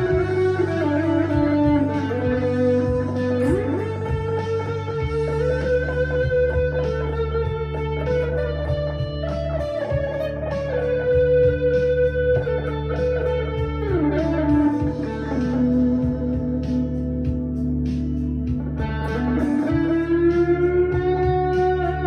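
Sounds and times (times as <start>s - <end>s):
overdriven electric guitar lead: 0.0s - 22.0s.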